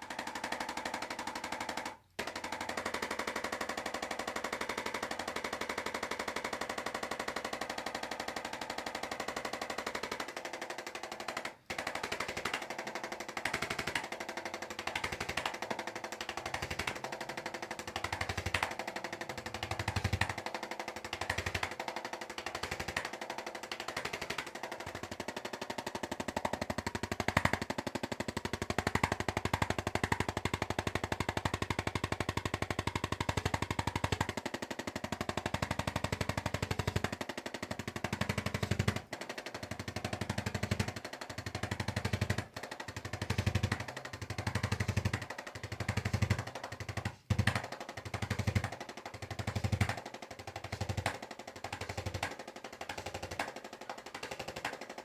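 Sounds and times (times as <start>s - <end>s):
massager rattling: 0.0s - 55.0s.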